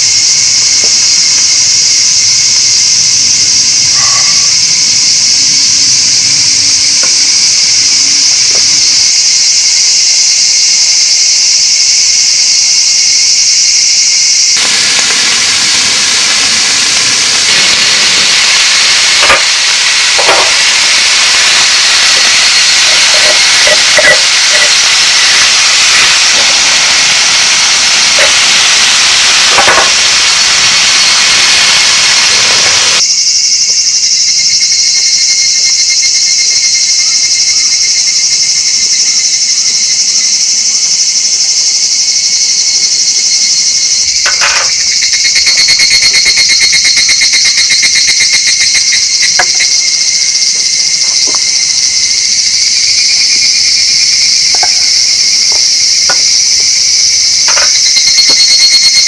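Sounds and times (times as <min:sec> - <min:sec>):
broad hiss: 0:00.0 - 0:33.3, 0:36.8 - 0:59.0
crickets chirring: 0:00.0 - 0:59.0.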